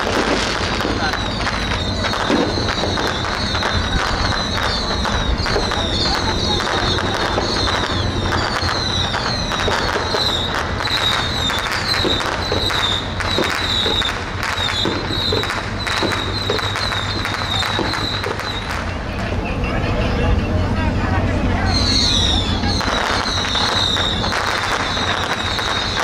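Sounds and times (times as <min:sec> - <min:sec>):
high whistling chirps: 0:00.0 - 0:18.9, 0:21.6 - 0:26.0
firecrackers cracking: 0:00.0 - 0:19.6, 0:21.7 - 0:26.0
boat engine drone: 0:00.0 - 0:26.0.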